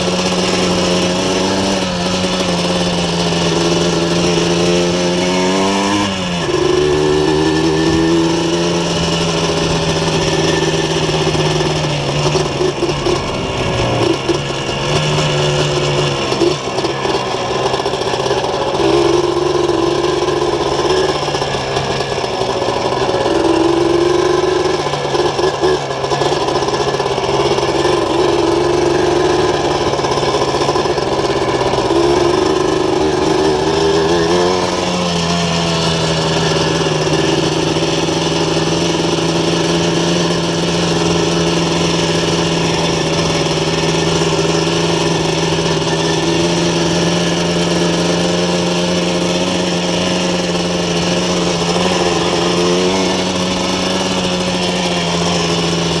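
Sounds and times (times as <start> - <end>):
two-stroke engine running: 0.0 - 56.0.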